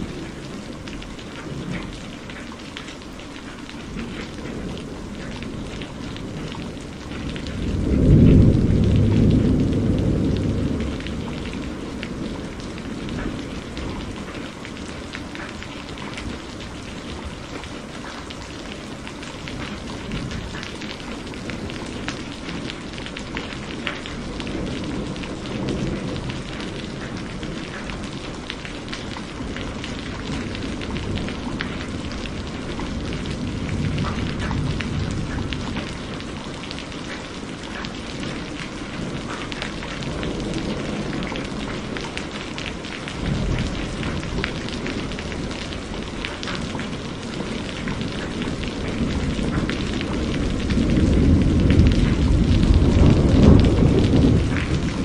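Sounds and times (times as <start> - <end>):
heavy rain hissing: 0.0 - 55.0
raindrop hits: 0.0 - 55.0
thunder rumbling: 0.0 - 55.0.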